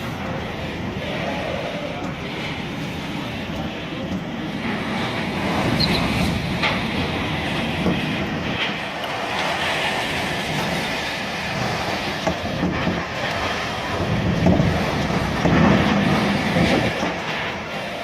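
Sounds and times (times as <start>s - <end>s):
hurricane-force wind blowing: 0.0s - 18.0s.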